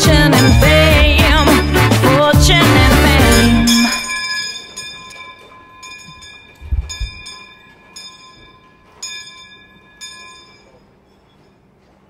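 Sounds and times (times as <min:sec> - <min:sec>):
bell tolling: 0:00.3 - 0:02.0, 0:02.8 - 0:11.7.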